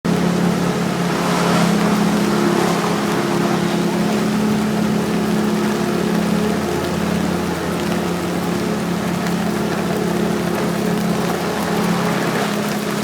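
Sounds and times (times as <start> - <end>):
motor droning: 0.1 - 13.0.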